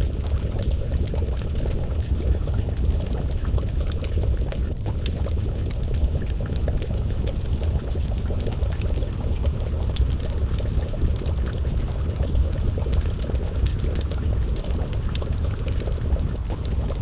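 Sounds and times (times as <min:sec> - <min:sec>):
stew bubbling in a pot: 0:00.0 - 0:17.0
wood fire crackling and popping: 0:00.0 - 0:17.0.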